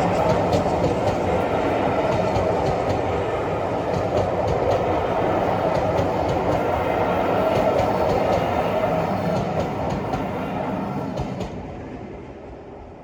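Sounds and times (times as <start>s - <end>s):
train rumbling along track: 0.0s - 13.0s.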